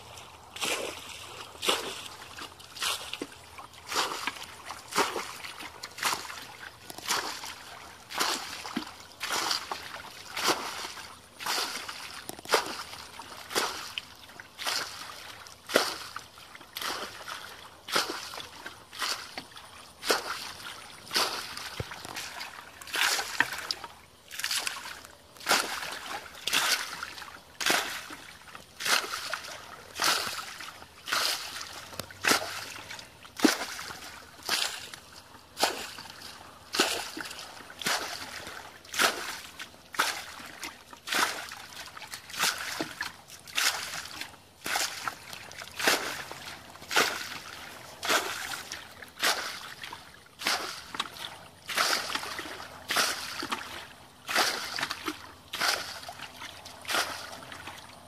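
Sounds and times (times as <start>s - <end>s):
bucket scooping water: 0.0s - 58.0s
water splashing: 0.0s - 58.0s.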